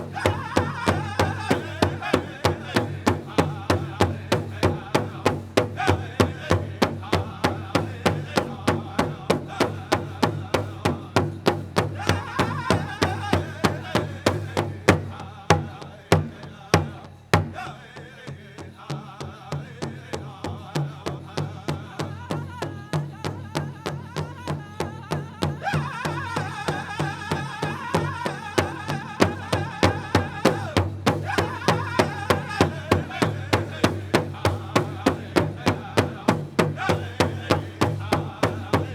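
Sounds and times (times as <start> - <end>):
large drum beating: 0.0 - 17.8, 20.5 - 38.9
group singing: 0.0 - 24.0, 25.2 - 38.9.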